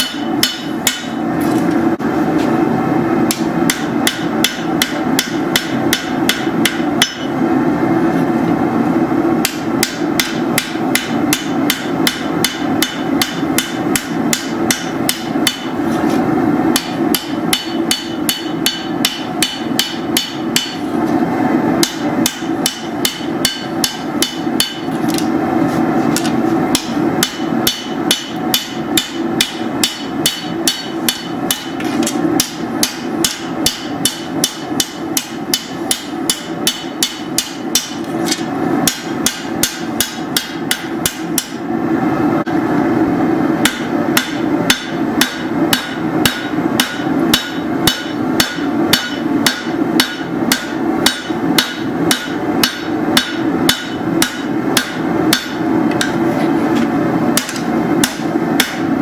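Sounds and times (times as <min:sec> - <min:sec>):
hammer striking steel on anvil: 0:00.0 - 0:01.2, 0:03.3 - 0:07.4, 0:09.4 - 0:15.8, 0:16.7 - 0:20.9, 0:21.8 - 0:25.4, 0:26.2 - 0:41.6, 0:43.6 - 0:59.0.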